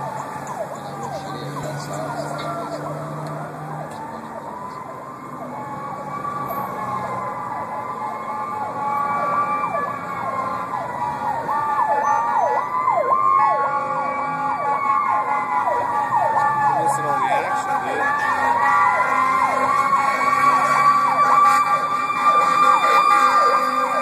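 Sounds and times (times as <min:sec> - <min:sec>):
fire engine siren wail: 0:00.0 - 0:24.0
siren yelp: 0:00.0 - 0:24.0.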